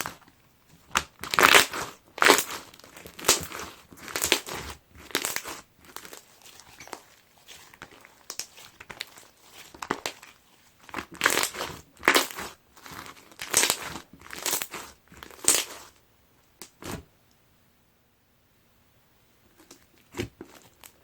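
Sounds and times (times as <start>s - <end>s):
crunchy slime crackling: 0.0s - 16.0s, 19.6s - 21.0s.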